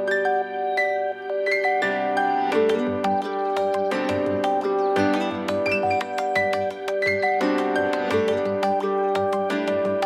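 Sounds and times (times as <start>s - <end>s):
gentle plucked-string music: 1.3s - 10.0s.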